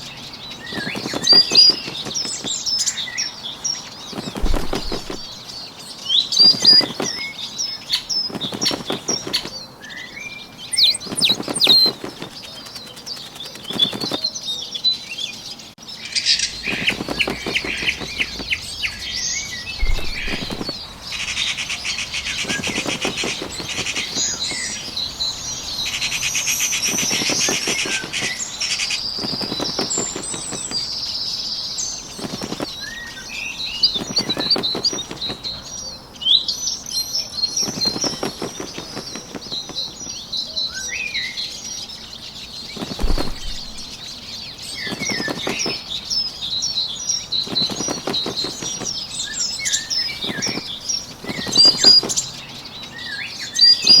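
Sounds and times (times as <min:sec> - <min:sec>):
small birds chirping: 0:00.0 - 0:54.0
bird wings fluttering: 0:00.3 - 0:10.0, 0:10.6 - 0:14.4, 0:16.2 - 0:35.7, 0:37.3 - 0:40.4, 0:42.3 - 0:52.4.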